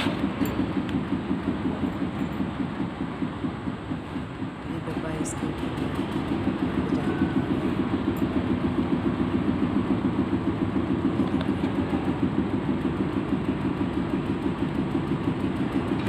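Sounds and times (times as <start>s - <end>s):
pulsing low mechanical hum: 0.0s - 16.0s.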